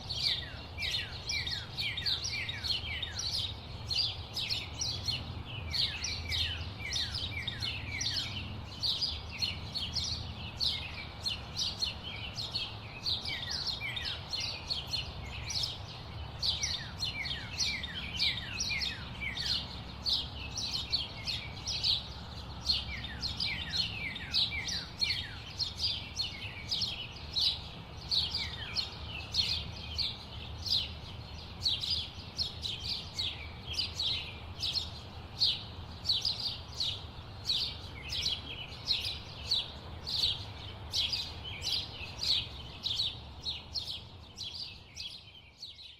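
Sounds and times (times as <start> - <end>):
low rumble of city traffic: 0.0 - 45.9
small birds chirping: 0.0 - 45.9.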